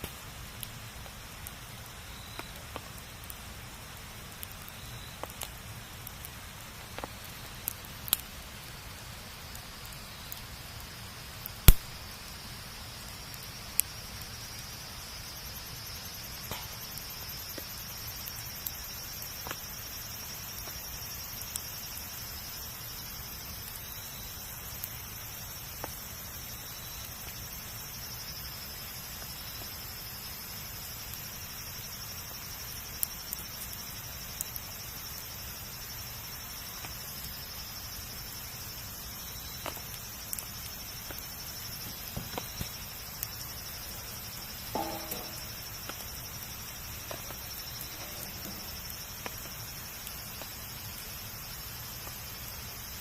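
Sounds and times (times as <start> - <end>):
wood fire crackling: 0.0 - 53.0
insects chirring: 0.6 - 53.0.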